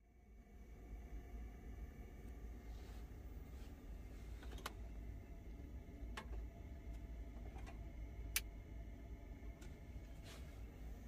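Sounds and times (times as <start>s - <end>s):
faint low rumble: 0.0s - 11.0s.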